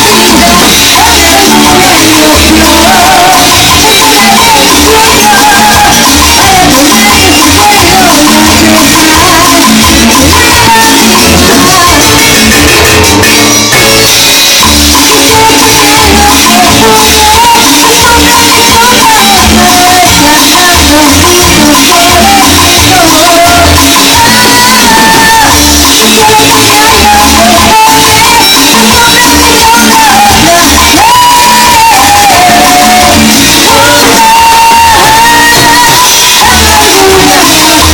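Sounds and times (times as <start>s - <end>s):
loud music with low beat: 0.0s - 37.9s.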